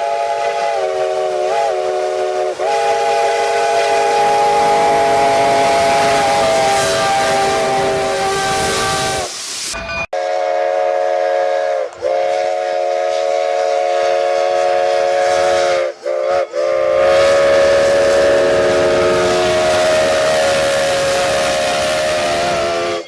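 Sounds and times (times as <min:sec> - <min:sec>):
steam hissing: 0:00.0 - 0:23.0
steam locomotive chime whistle: 0:00.0 - 0:23.0.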